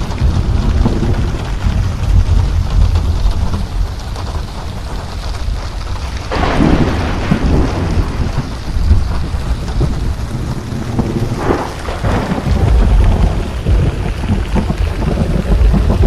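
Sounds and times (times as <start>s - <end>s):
crackling thunder burst: 0.0s - 16.0s
heavy rain: 0.0s - 16.0s
rolling thunder: 0.0s - 16.0s.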